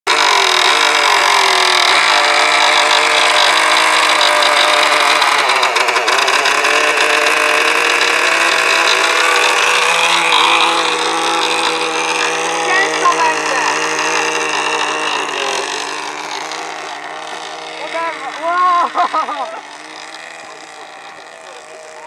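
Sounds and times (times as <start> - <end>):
model airplane engine high revs: 0.0 - 22.0.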